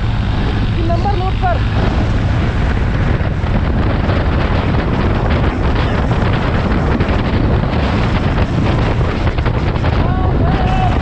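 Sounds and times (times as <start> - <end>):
motorbike engine noise: 0.0 - 11.0
wind buffeting microphone: 0.0 - 11.0.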